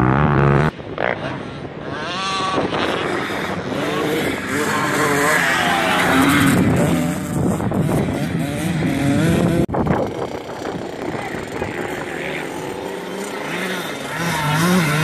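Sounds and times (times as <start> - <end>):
dirt bike engine revving: 0.0 - 15.0
wind noise on microphone: 0.1 - 5.2, 6.1 - 13.0.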